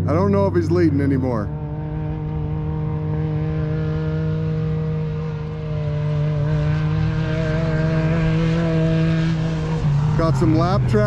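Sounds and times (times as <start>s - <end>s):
race vehicle engine running: 0.0s - 11.0s.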